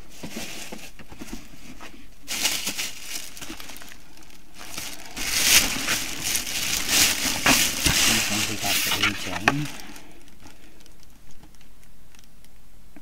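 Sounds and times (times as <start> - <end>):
shopping bag crinkling: 0.0 - 11.6.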